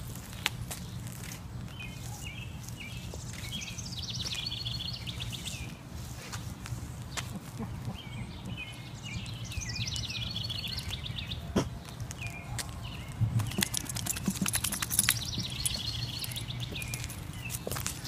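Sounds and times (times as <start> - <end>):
birds chirping: 0.3 - 18.0.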